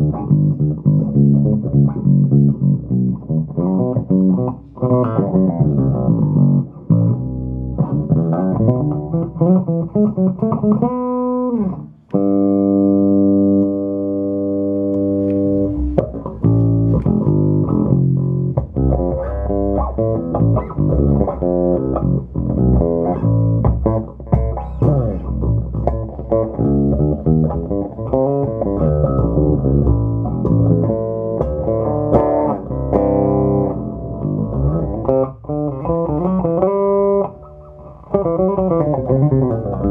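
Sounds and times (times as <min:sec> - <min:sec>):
electric bass guitar plucked: 0:00.0 - 0:39.9.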